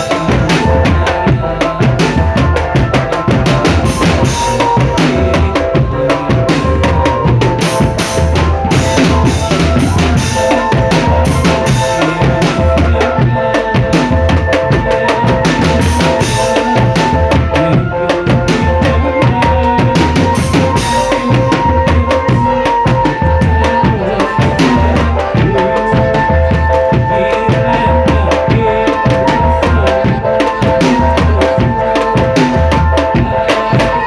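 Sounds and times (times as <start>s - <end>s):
bass drum beats: 0.0s - 34.0s
held melody notes: 0.0s - 34.0s.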